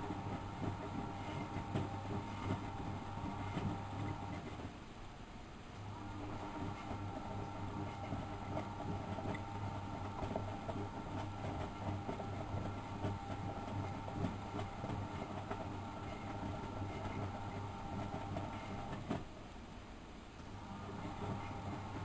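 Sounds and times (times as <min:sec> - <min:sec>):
washing machine drum humming: 0:00.0 - 0:04.8, 0:05.7 - 0:19.4, 0:20.4 - 0:22.0.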